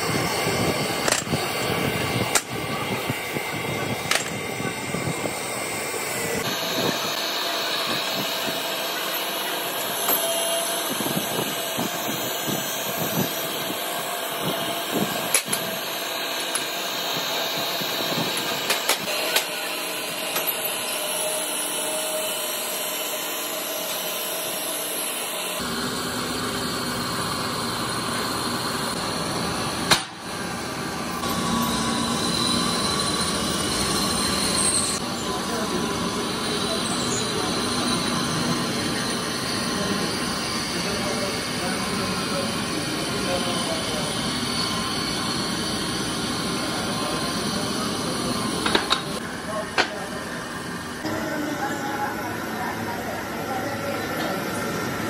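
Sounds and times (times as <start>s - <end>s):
grinding machine humming: 0.0s - 55.0s
workshop rumble: 0.0s - 55.0s.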